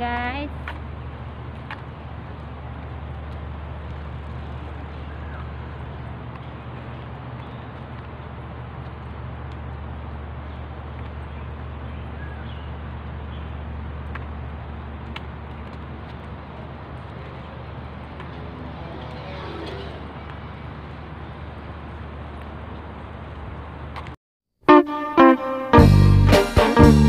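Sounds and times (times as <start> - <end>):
outdoor rumble and hiss: 0.0 - 24.2.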